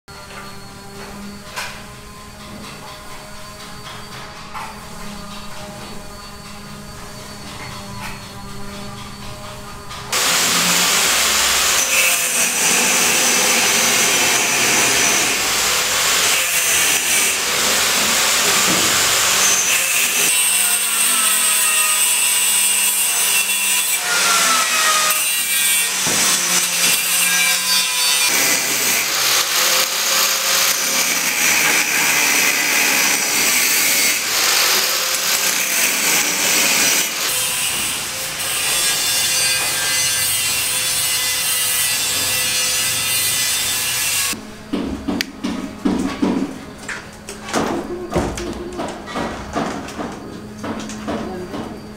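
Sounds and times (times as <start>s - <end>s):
angle grinder grinding steel: 0.2s - 44.4s.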